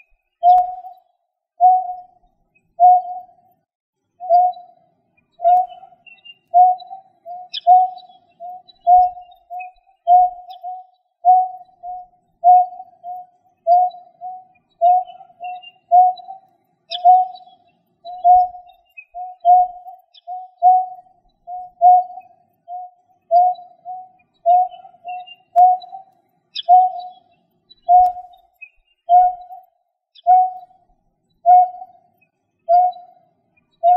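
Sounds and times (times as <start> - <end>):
faint higher bird chirps: 0.0 - 33.9.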